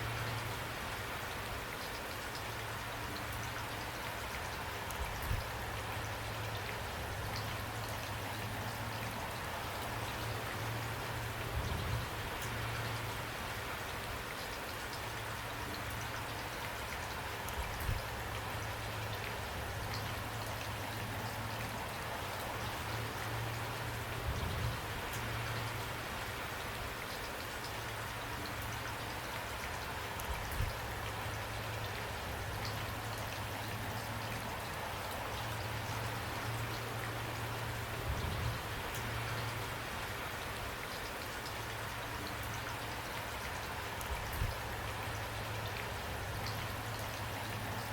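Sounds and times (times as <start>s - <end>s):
rain hiss: 0.0s - 47.9s.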